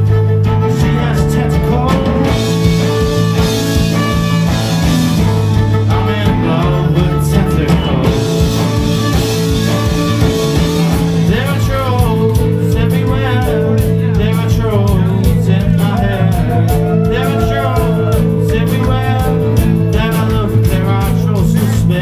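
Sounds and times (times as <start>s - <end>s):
electric guitar: 0.0s - 22.0s
held bass notes: 0.0s - 22.0s
steady drum beat: 0.0s - 22.0s.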